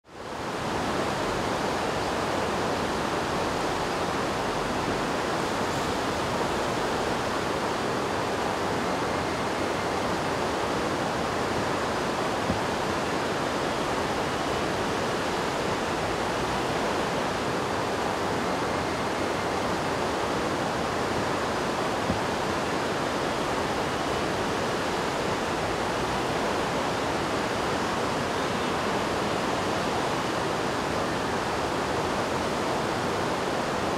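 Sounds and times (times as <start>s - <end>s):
river rushing: 0.0s - 33.9s.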